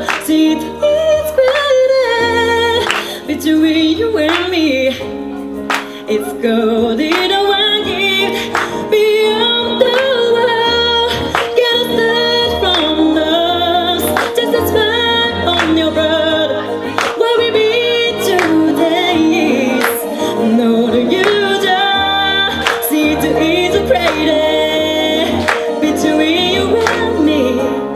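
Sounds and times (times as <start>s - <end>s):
backing music with bass: 0.0s - 27.9s
woman singing: 0.0s - 27.9s.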